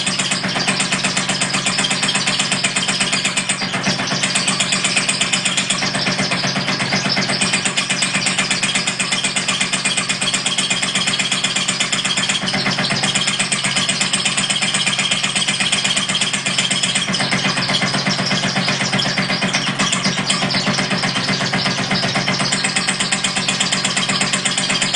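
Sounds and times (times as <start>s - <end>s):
small motor rattling: 0.0s - 24.9s.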